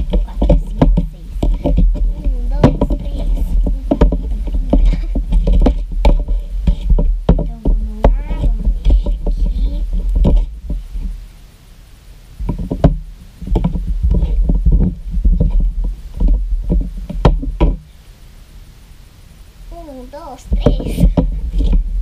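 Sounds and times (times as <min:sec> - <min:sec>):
dull bumps of plastic bowl: 0:00.0 - 0:11.2, 0:12.4 - 0:17.9, 0:20.5 - 0:22.0.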